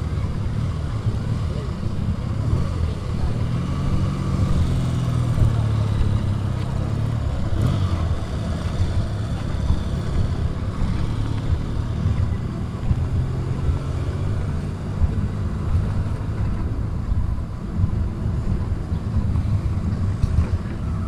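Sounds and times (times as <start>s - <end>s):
low rumble of road traffic: 0.0s - 21.0s.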